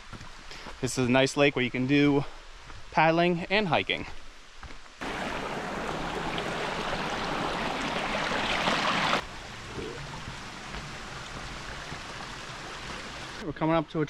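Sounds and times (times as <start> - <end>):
creek running water: 0.0 - 13.8.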